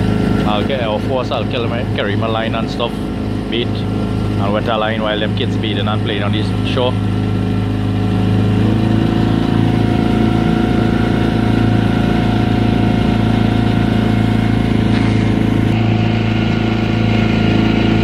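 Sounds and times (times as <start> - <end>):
outboard motor droning: 0.0 - 18.0.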